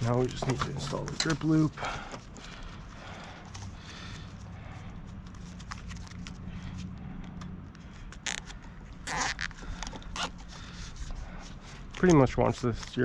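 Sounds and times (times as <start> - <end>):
cable rustling: 0.0 - 13.0.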